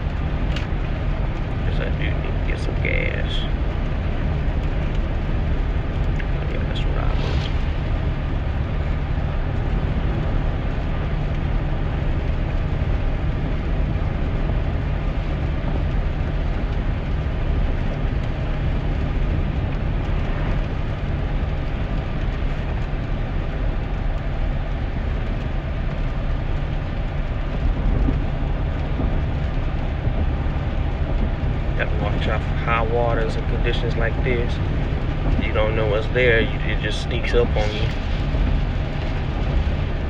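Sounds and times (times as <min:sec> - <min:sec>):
engine and tyres rumbling: 0:00.0 - 0:40.0
heavy rain hiss: 0:04.3 - 0:17.7, 0:18.3 - 0:40.0.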